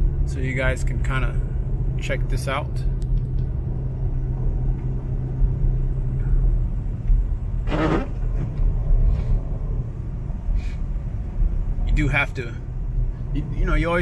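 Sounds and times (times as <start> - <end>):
low rumble of engine and tyres: 0.0 - 14.0.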